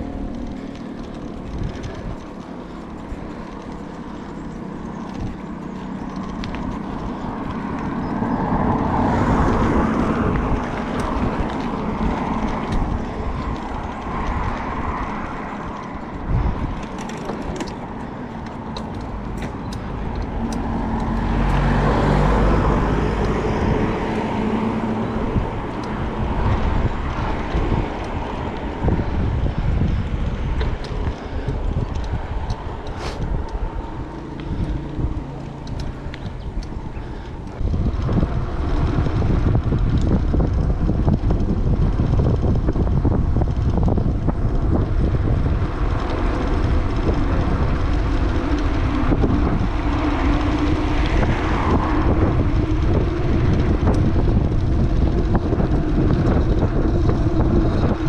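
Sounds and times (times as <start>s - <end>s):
deep rumble: 0.0s - 58.0s
motor traffic passing: 0.0s - 58.0s
wind rushing over microphone: 0.0s - 58.0s.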